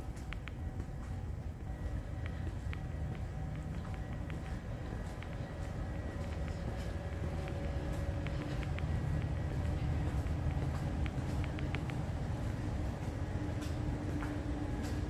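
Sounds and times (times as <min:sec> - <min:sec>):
faint machinery hum: 0:00.0 - 0:15.0
low ship interior rumble: 0:00.0 - 0:15.0.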